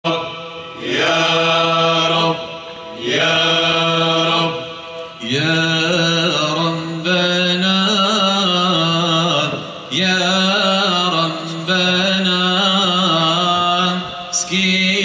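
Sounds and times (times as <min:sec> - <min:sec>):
male choir singing: 0:00.0 - 0:15.0.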